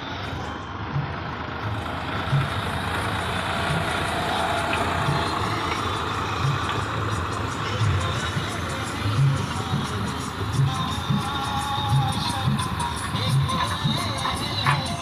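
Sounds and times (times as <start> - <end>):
tractor diesel engine rumbling: 0.0 - 15.0.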